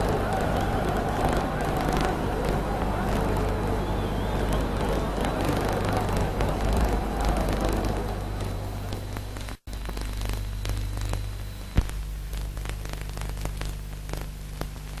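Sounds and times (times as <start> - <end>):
film crackle clicks: 0.0 - 15.0
low mains hum: 0.0 - 15.0.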